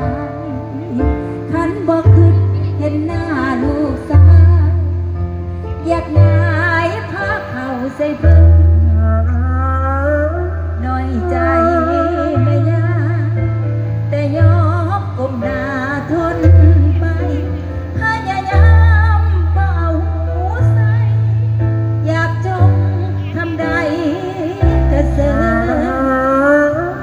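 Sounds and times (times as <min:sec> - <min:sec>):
woman singing through pa: 0:00.0 - 0:05.1, 0:05.8 - 0:27.0
live band: 0:00.0 - 0:27.0.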